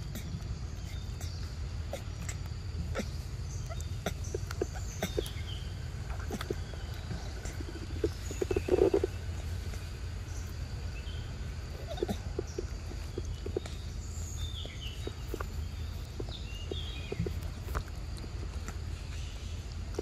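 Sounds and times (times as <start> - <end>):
monkey chewing and smacking: 0.0 - 10.6, 11.8 - 20.0
birds chirping: 0.0 - 20.0.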